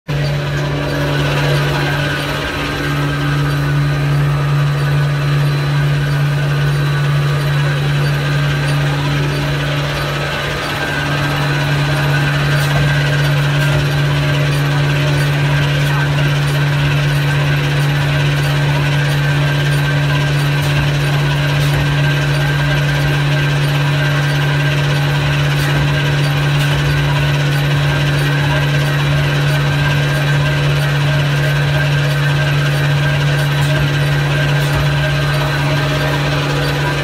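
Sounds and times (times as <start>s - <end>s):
low machine hum: 0.1s - 37.0s
paper machine running: 0.1s - 37.0s.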